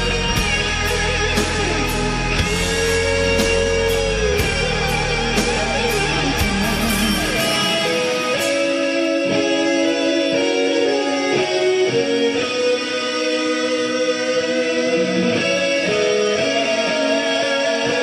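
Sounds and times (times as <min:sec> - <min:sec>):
guitar music with beat: 0:00.0 - 0:18.0.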